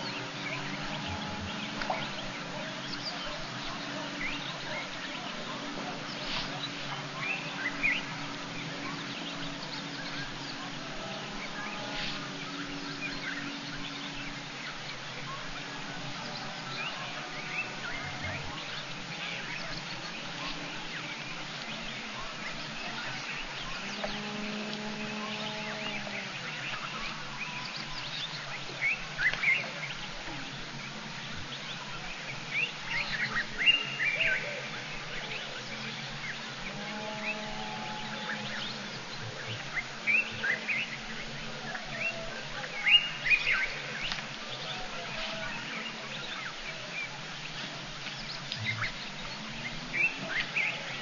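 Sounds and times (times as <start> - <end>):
background hiss: 0.0 - 51.0
low steady hum: 0.0 - 51.0.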